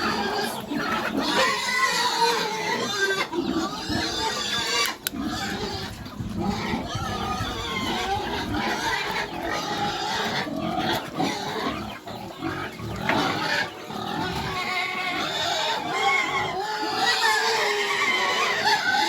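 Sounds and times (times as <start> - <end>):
pig calling: 0.0 - 19.0.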